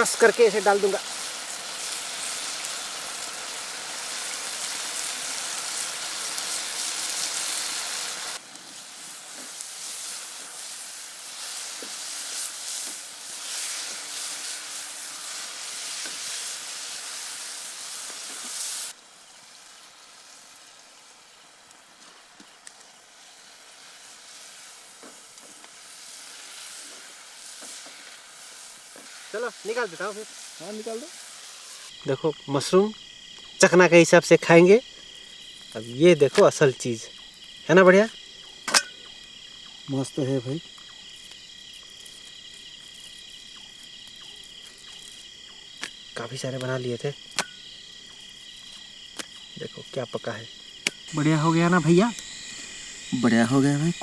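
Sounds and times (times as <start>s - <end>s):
mushrooms sizzling in a pan: 0.0s - 54.0s.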